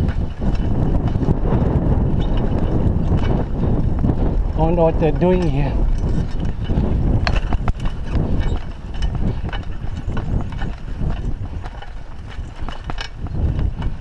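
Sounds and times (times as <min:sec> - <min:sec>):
bike rattling and clicking: 0:00.0 - 0:14.0
bike tyres rumbling on dirt: 0:00.0 - 0:14.0
wind buffeting microphone: 0:00.0 - 0:14.0.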